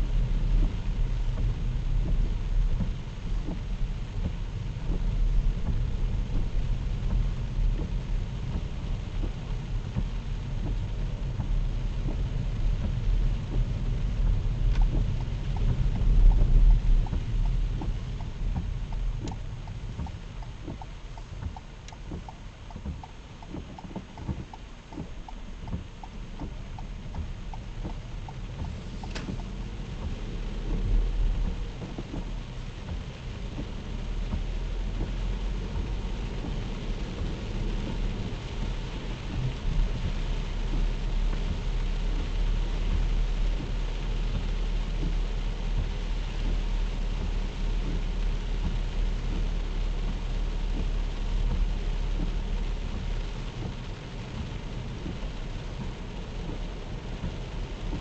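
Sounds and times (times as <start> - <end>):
heavy rain: 0.0 - 58.0
vehicle on wet road: 0.0 - 58.0
faint ticks and taps: 0.5 - 58.0.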